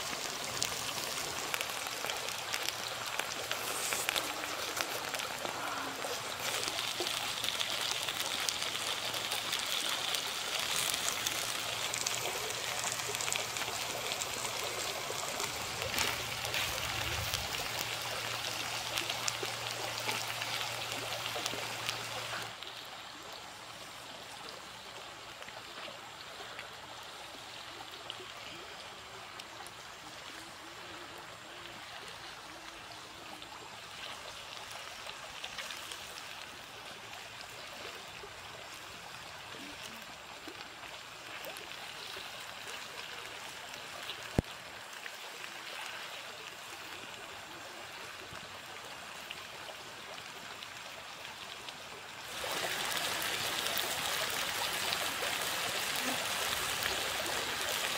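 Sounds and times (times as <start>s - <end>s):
creek water rushing and trickling: 0.0s - 57.9s.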